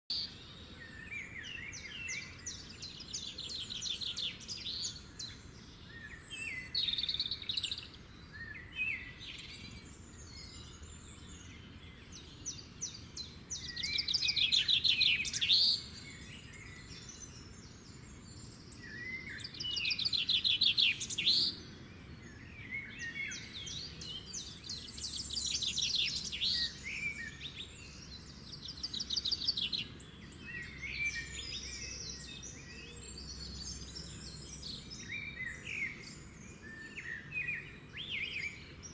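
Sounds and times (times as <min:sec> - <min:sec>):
songbirds singing: 0:00.1 - 0:38.9.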